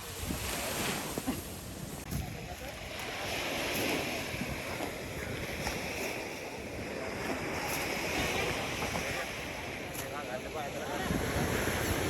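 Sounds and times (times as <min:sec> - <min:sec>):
sea waves breaking: 0:00.0 - 0:12.0
wind buffeting microphone: 0:00.0 - 0:12.0.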